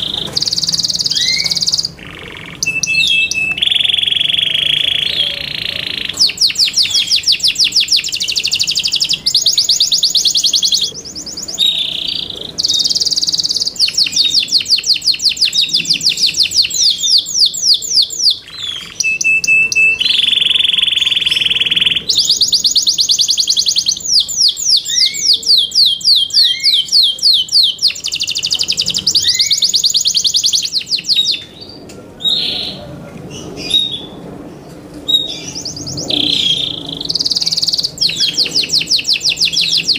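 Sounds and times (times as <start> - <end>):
canary singing trills: 0.0 - 34.3, 35.0 - 39.9.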